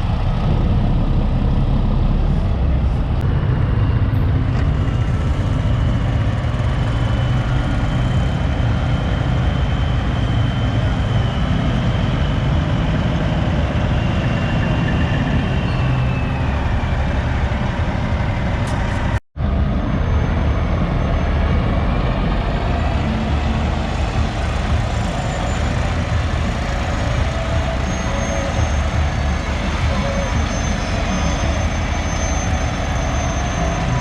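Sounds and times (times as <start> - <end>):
diesel truck engines passing: 0.0 - 34.0.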